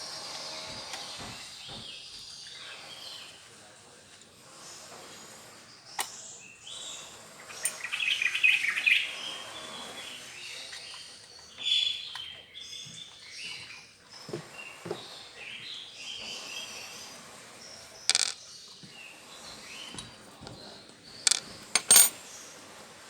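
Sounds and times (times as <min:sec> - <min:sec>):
small birds chirping: 0:00.1 - 0:21.7.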